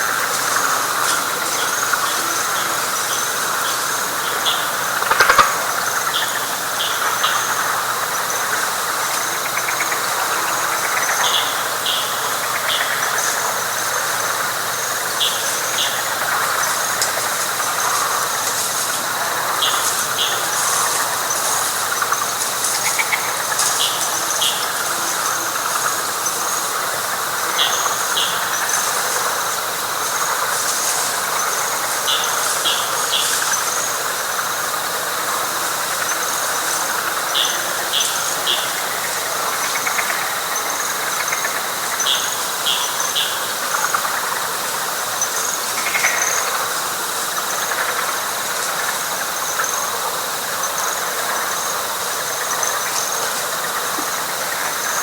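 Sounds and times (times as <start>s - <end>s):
frog chorus: 0.0s - 55.0s.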